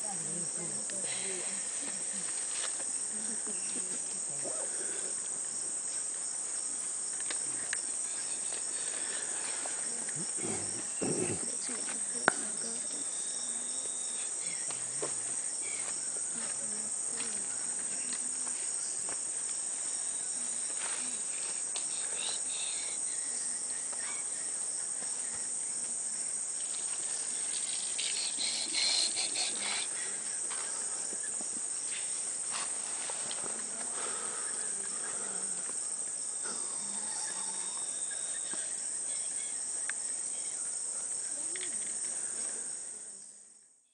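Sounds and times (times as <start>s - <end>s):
insects chirring: 0.0s - 43.8s.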